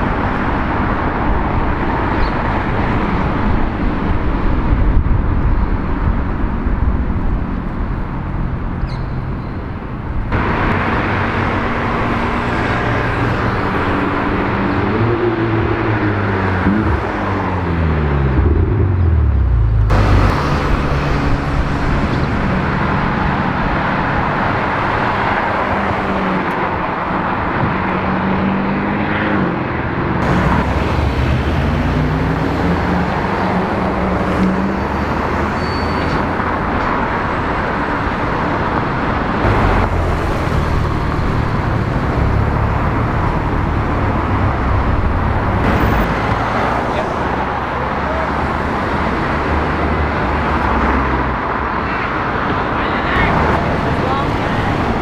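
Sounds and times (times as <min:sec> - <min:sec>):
traffic noise: 0:00.0 - 0:55.0
sports car engines accelerating: 0:10.1 - 0:55.0.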